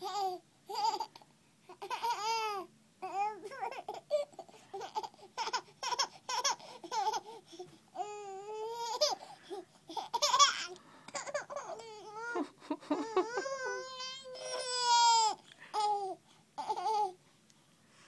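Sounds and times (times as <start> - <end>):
baby laughing and babbling: 0.0 - 17.2.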